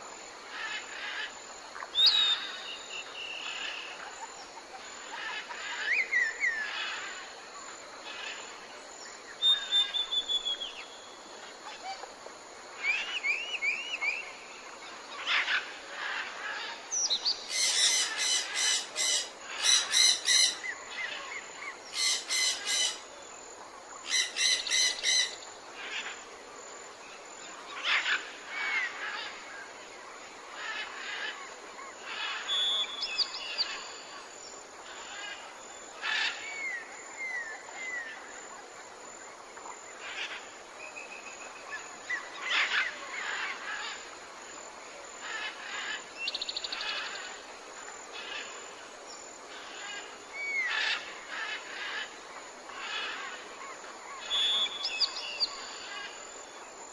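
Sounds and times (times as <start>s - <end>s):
outdoor background hiss: 0.0s - 56.9s.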